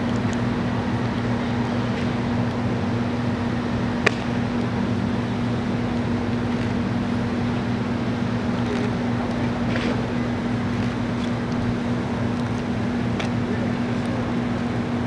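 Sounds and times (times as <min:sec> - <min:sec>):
low mechanical urban hum: 0:00.0 - 0:15.0.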